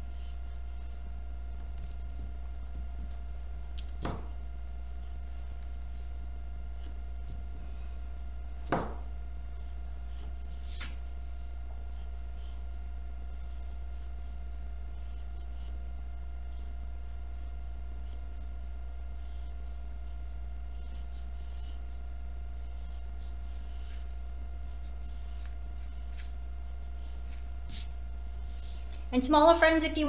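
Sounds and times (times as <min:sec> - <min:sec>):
pencil scratching on paper: 0:00.0 - 0:29.8
steady low hum: 0:00.0 - 0:30.0.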